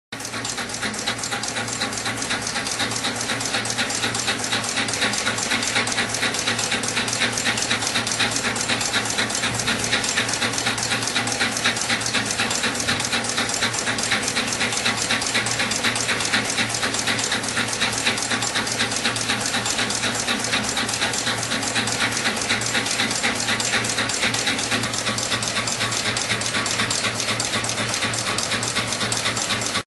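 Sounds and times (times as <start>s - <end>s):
laptop keyboard typing: 0.2s - 29.8s.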